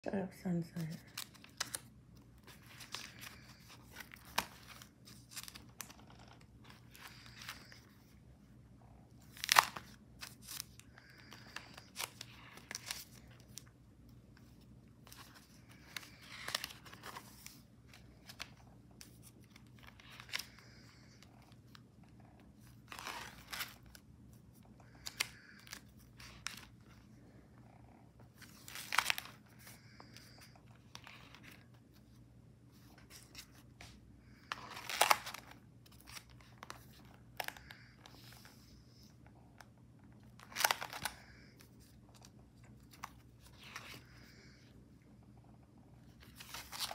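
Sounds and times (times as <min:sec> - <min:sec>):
paper crinkling and rustling: 0:00.8 - 0:08.3, 0:09.1 - 0:27.2, 0:28.2 - 0:44.6, 0:45.5 - 0:46.9
book pages turning: 0:00.9 - 0:44.8, 0:45.4 - 0:46.9.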